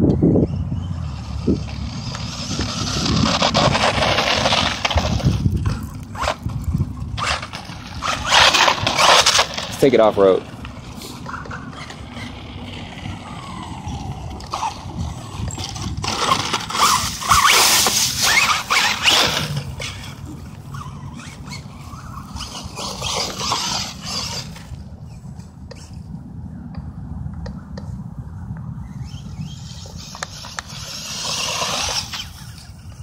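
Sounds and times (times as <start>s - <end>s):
tyres scraping through dry leaves: 1.0s - 25.3s, 29.0s - 33.0s
electric motor whining: 1.0s - 26.0s, 28.8s - 33.0s.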